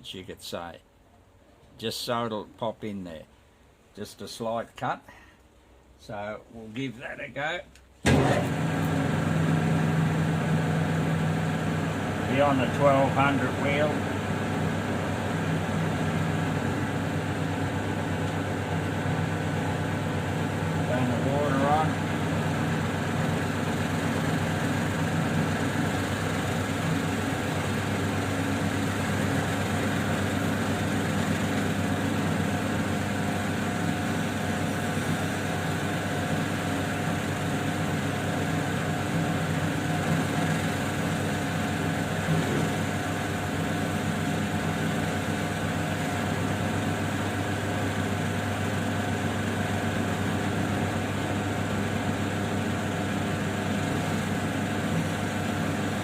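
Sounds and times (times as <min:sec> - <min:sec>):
grinding machine motor hum: 0:08.1 - 0:56.0.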